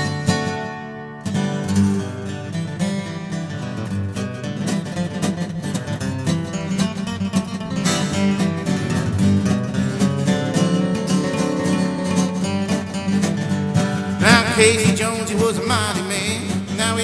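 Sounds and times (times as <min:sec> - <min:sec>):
acoustic guitar country tune: 0:00.0 - 0:17.0.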